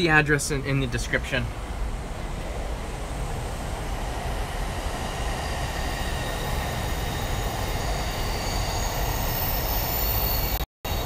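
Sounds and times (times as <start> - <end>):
electric train rumbling past: 0.0 - 11.0
faint high whine: 0.0 - 11.0.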